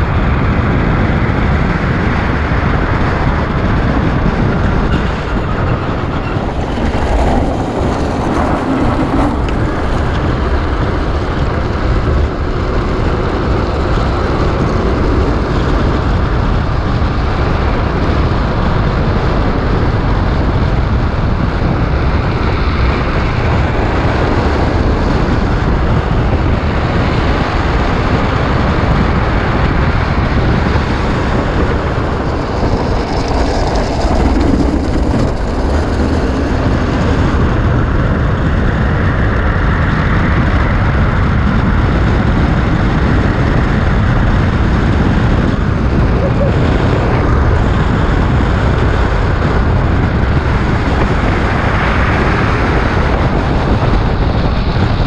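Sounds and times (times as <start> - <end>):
wheels rolling on asphalt: 0.0 - 55.0
wind rushing over microphone: 0.0 - 55.0.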